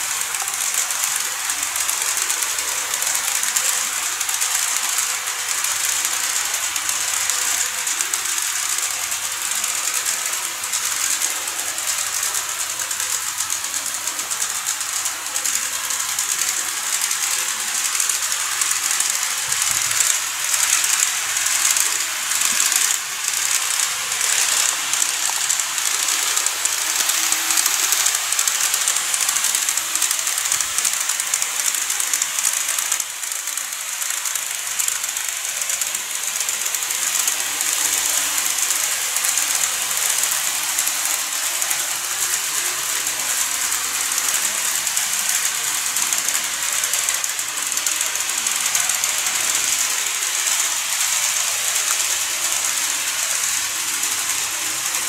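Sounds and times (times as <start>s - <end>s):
model trains whirring: 0.0s - 55.0s
wheels clicking over rails: 0.0s - 55.0s.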